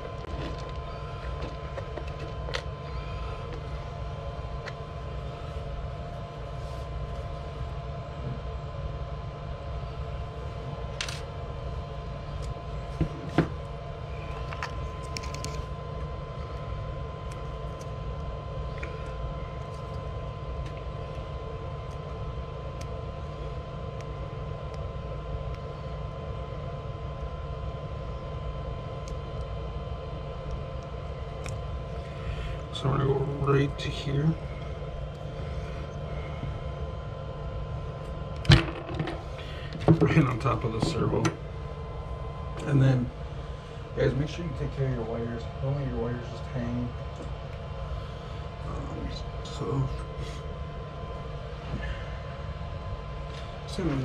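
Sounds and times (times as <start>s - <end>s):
faint steady whine: 0.0s - 54.0s
low machine hum: 0.0s - 54.0s.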